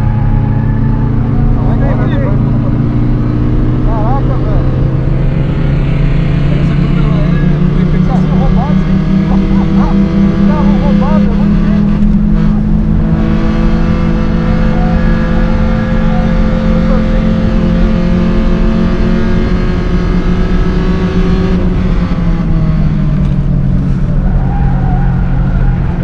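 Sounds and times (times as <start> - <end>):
car engines pulling hard: 0.0 - 26.0.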